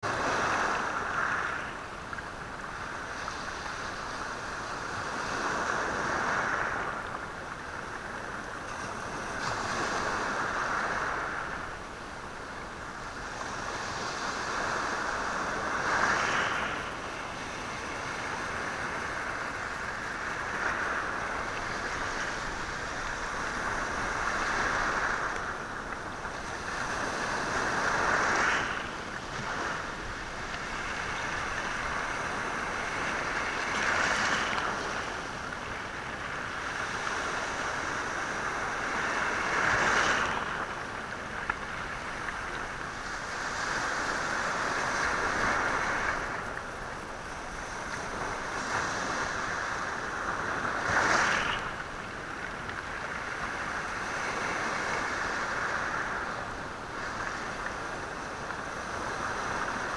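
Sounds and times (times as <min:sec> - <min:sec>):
waves washing over stony shore: 0:00.0 - 0:59.9.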